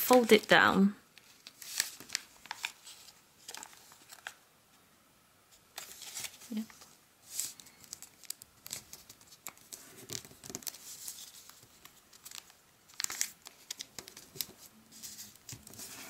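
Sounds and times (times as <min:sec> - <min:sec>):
paper rustling and crinkling: 0:00.0 - 0:00.6, 0:01.2 - 0:04.4, 0:05.7 - 0:16.0.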